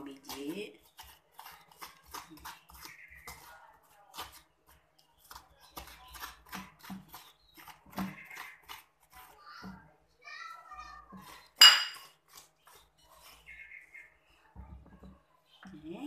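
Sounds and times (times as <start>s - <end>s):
wet scraping of melon seeds: 0.0s - 9.6s, 10.8s - 14.4s.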